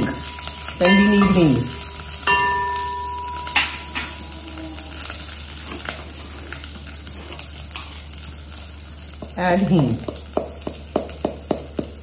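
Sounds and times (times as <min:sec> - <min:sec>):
spices sizzling in hot fat: 0:00.0 - 0:12.0.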